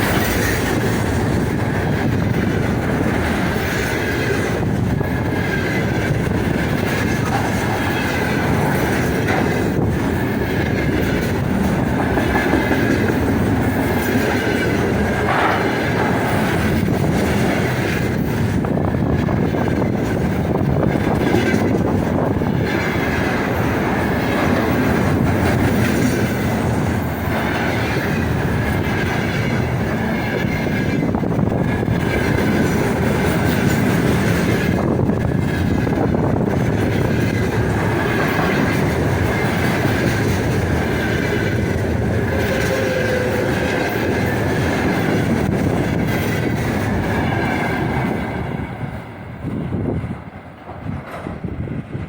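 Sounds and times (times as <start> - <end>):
train wheels clattering over rails: 0.0 - 52.0.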